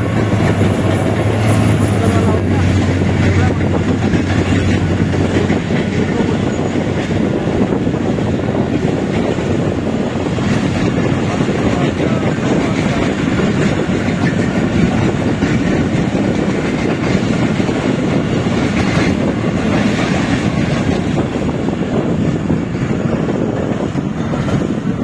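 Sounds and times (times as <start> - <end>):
train wheels on rail: 0.0 - 25.0.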